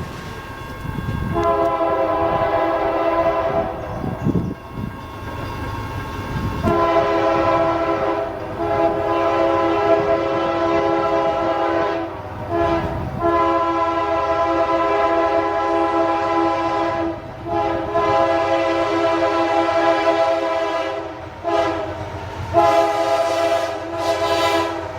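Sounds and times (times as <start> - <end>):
train rumbling: 0.0 - 24.9
locomotive air horn blasts: 1.2 - 4.2, 6.6 - 24.9.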